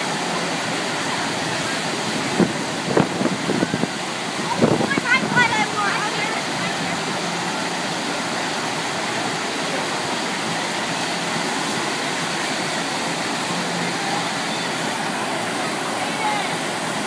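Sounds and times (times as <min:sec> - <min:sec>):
water pouring rushing: 0:00.0 - 0:17.0.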